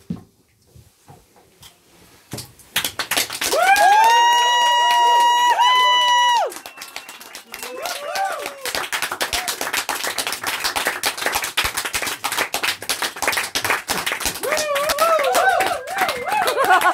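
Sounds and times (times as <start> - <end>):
audience clapping: 2.8 - 16.9.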